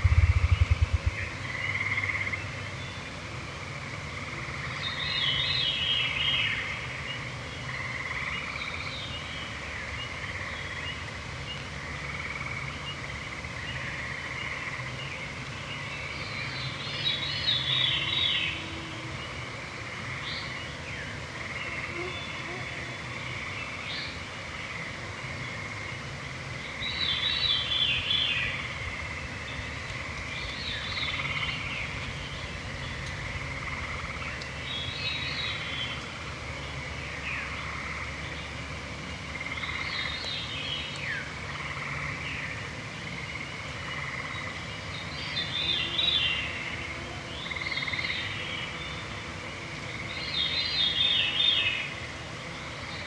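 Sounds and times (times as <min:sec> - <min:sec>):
distant frogs trilling: 0:00.0 - 0:53.0
songbird singing: 0:00.0 - 0:53.0.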